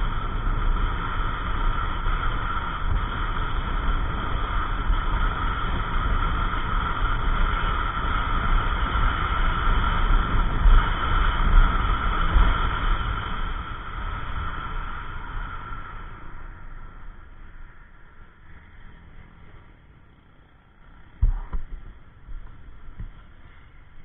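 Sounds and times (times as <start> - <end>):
wind buffeting microphone: 0.0 - 20.2
scooter engine cruising: 0.0 - 24.0.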